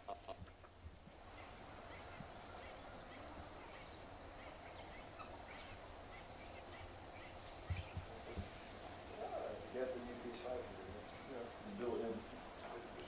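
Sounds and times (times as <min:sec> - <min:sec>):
distant poultry calling: 0:00.0 - 0:13.0.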